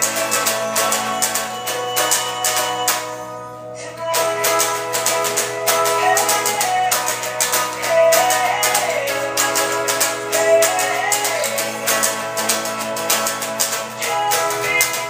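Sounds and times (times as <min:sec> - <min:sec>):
electric guitar strumming chords: 0:00.0 - 0:15.0.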